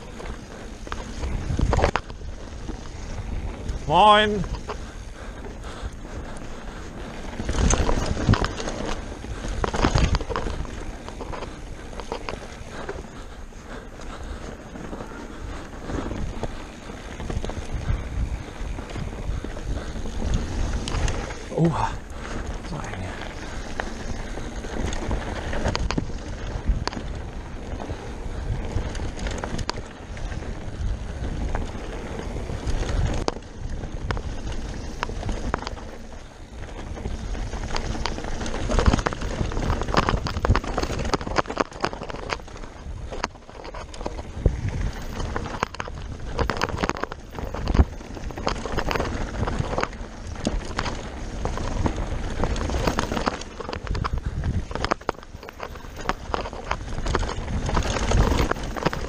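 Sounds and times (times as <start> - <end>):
bike rattling and knocking: 0.0 - 59.0
bike tyres rumbling on dirt: 0.0 - 59.0
wind buffeting microphone: 0.0 - 59.0.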